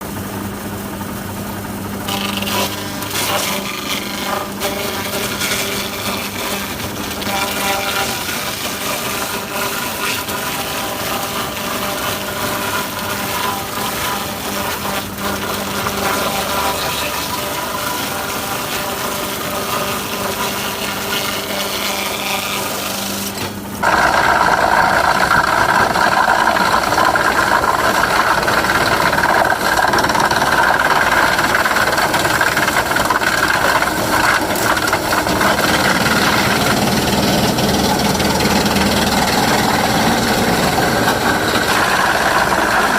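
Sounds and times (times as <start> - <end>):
sawmill machinery humming: 0.0 - 42.9
high-pitched saw whine: 2.1 - 42.9.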